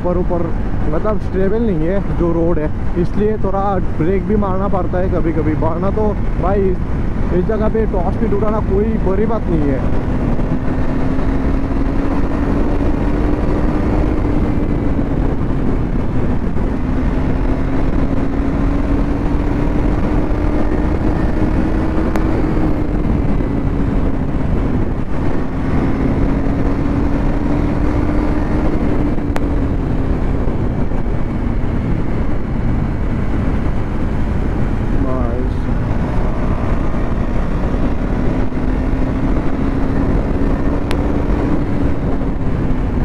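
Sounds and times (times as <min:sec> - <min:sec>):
motorcycle engine cruising: 0:00.0 - 0:43.0
wind and road noise: 0:00.0 - 0:43.0.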